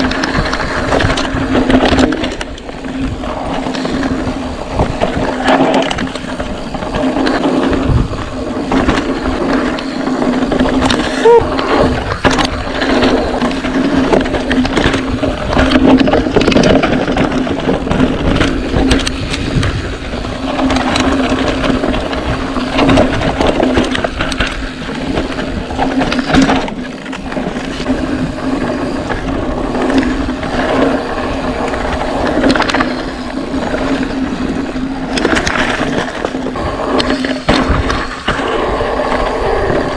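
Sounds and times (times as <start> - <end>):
bike tyres crunching over dirt: 0.0 - 39.9.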